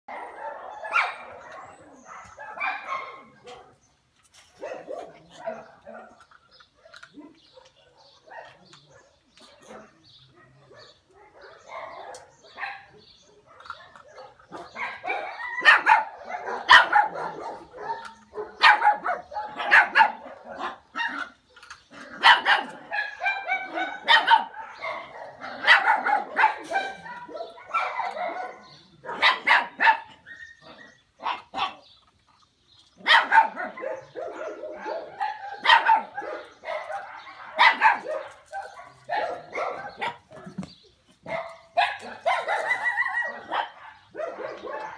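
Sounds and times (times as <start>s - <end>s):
puppies barking and yipping: 0.1s - 44.9s.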